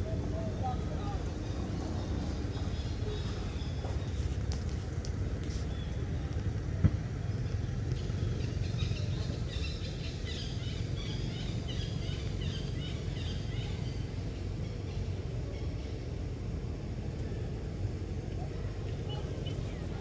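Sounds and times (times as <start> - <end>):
birds chirping: 0.0 - 16.4, 18.3 - 20.0
steady low rumble: 0.0 - 20.0.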